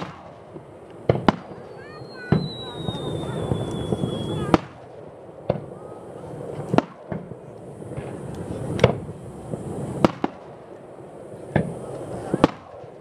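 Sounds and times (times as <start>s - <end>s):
faint firework pops: 0.0s - 5.7s, 6.5s - 10.5s, 11.5s - 13.0s
firework shells bursting: 0.0s - 10.8s, 11.4s - 13.0s.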